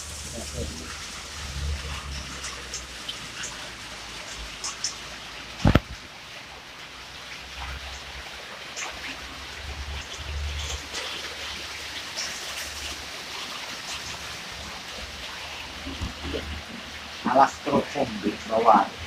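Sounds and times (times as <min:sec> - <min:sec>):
trickling water: 0:00.0 - 0:19.0.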